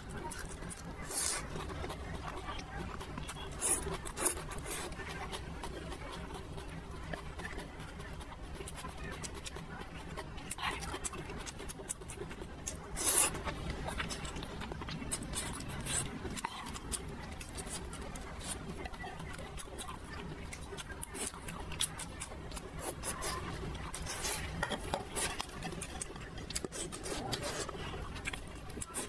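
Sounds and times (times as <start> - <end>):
person chewing noodles: 0.0 - 29.0.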